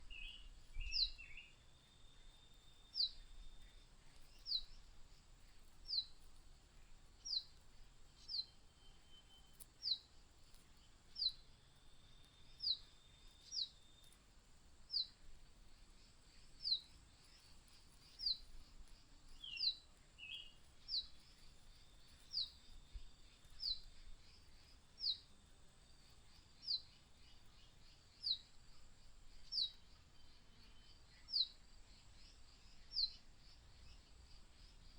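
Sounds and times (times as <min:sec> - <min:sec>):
lower bird chirps: 0:00.0 - 0:14.2, 0:14.8 - 0:34.9.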